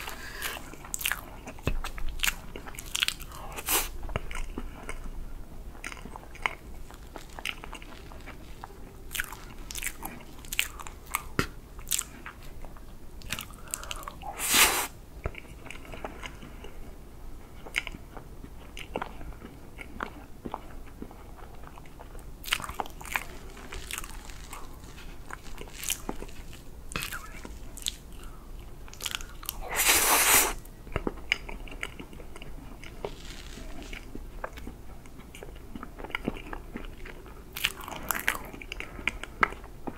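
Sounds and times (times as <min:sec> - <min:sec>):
wet chewing with mouth clicks: 0:00.0 - 0:39.9.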